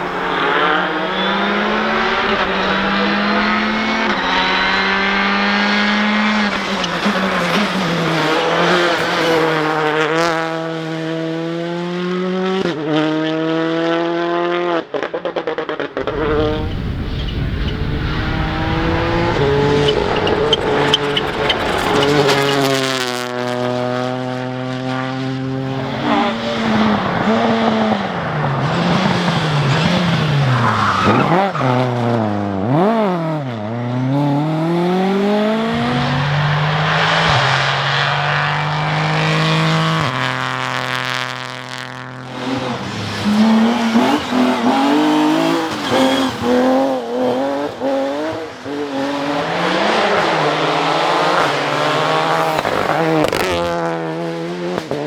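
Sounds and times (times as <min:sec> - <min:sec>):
tyres skidding: 0:00.0 - 0:10.2, 0:15.9 - 0:24.3, 0:25.4 - 0:32.8, 0:34.6 - 0:54.9
rally car engines revving: 0:00.0 - 0:55.0.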